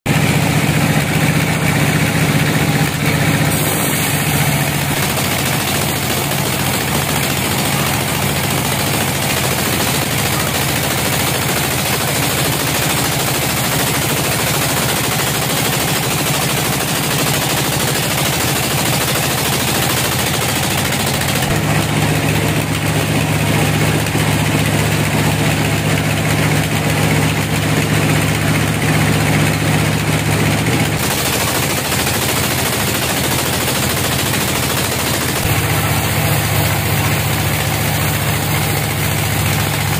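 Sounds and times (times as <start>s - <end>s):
bandsaw machinery droning: 0.1s - 39.9s.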